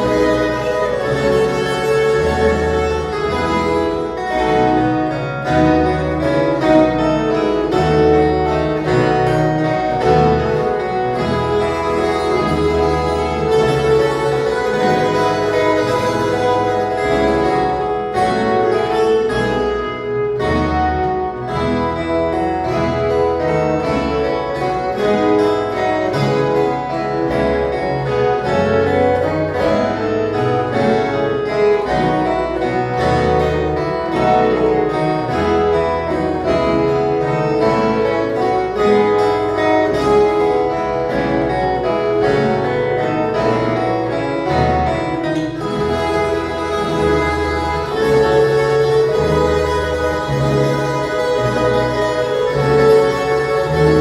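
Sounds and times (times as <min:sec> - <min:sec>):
plucked guitar ensemble: 0:00.0 - 0:54.0.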